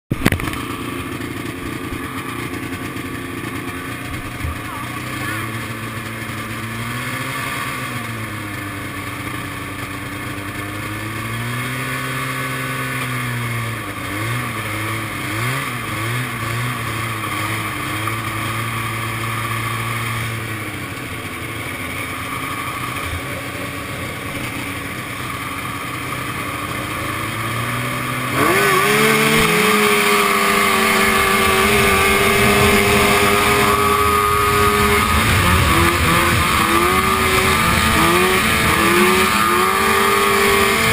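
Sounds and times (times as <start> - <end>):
snowmobile engine revving: 0.2 - 40.9.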